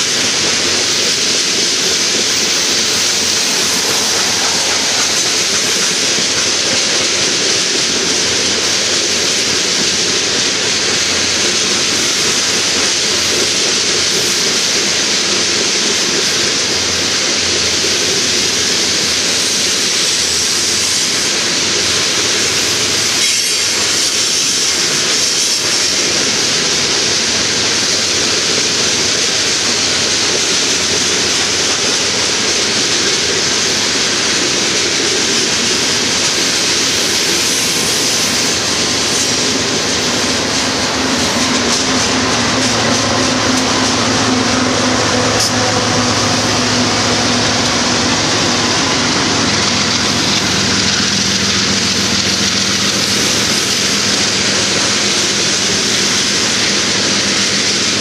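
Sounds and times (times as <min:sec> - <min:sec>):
diesel locomotive engines humming: 0:00.0 - 0:58.0
steel wheels rumbling on rail: 0:00.0 - 0:58.0.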